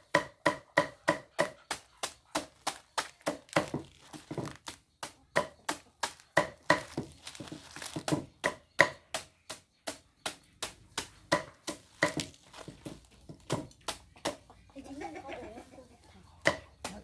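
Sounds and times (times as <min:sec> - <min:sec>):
blade chopping on wooden board: 0:00.0 - 0:07.2, 0:08.0 - 0:14.4, 0:16.4 - 0:17.0.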